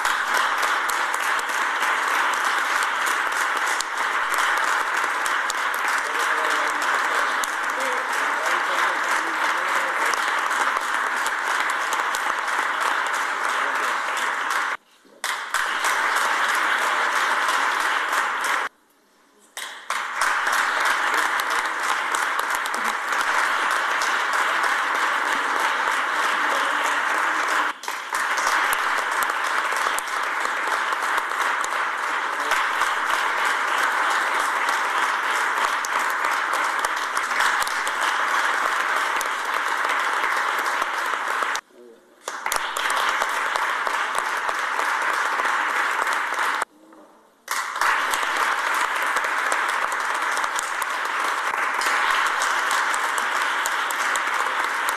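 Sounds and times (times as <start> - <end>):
audience applauding: 0.0 - 18.7, 19.6 - 46.7, 47.5 - 54.9.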